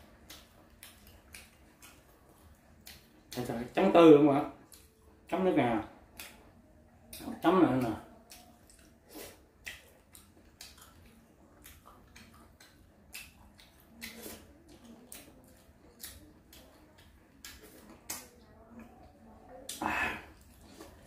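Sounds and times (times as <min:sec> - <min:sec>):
wet chewing and lip-smacking: 0:00.0 - 0:03.8, 0:04.6 - 0:05.4, 0:06.0 - 0:21.0.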